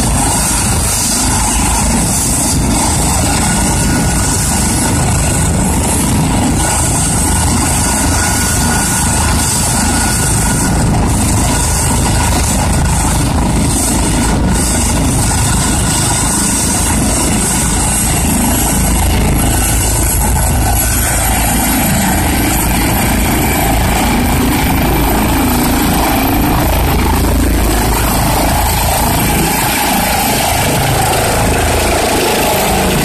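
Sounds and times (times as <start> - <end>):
helicopter rotors running: 0.0 - 33.0.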